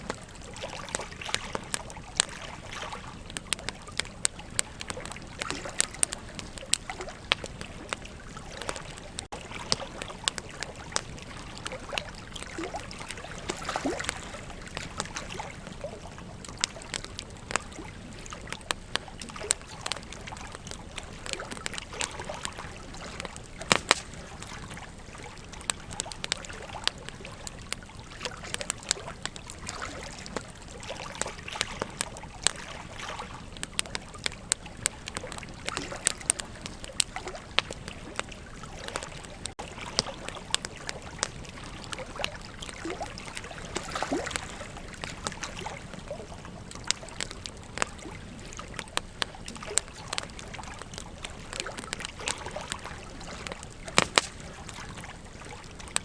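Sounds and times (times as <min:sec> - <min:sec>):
burning wood crackling and popping: 0:00.0 - 0:56.0.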